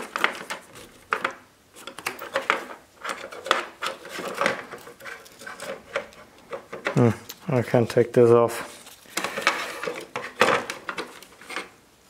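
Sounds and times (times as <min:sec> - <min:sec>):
clicks and knocks of plastic parts: 0:00.0 - 0:07.5, 0:08.9 - 0:11.7.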